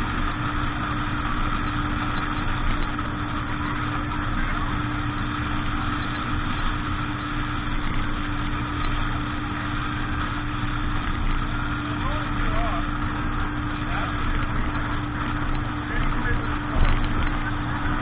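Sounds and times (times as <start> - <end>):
boat engine humming: 0.0 - 18.0
water rushing: 0.0 - 18.0.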